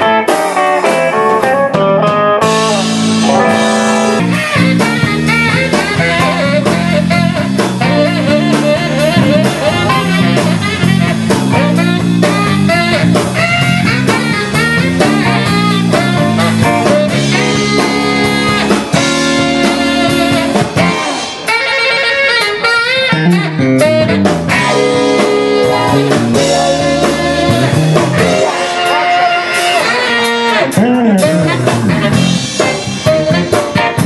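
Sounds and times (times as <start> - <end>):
bass guitar: 0.0 - 34.0
blues-rock band playing: 0.0 - 34.0
guitar lead with bent notes: 0.0 - 34.0
steady drum beat: 0.0 - 34.0.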